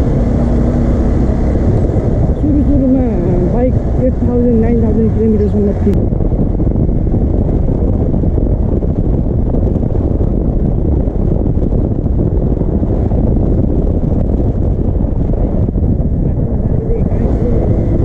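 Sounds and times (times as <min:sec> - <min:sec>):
motorcycle engine: 0:00.0 - 0:18.0
road noise: 0:00.0 - 0:18.0
wind buffeting microphone: 0:00.0 - 0:18.0.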